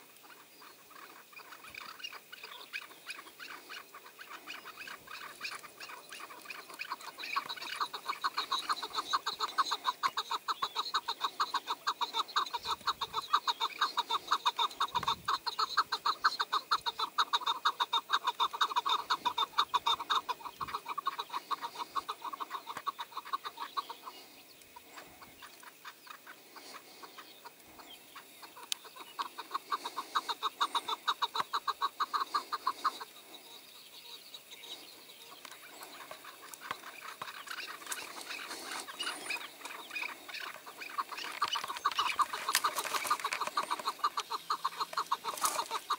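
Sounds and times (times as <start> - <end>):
partridge calling: 0.0 - 45.9.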